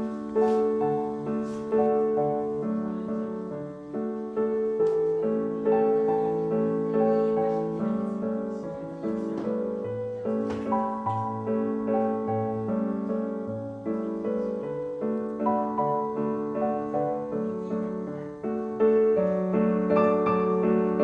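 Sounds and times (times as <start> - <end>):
gentle piano melody: 0.0 - 21.0.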